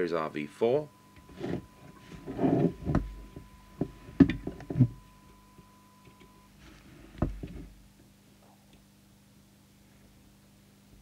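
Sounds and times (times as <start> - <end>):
faint steady tone: 0.0 - 11.0.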